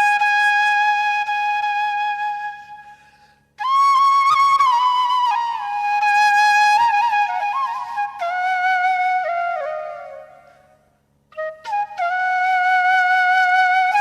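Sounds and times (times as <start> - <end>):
solo flute slow melody: 0.0 - 14.0.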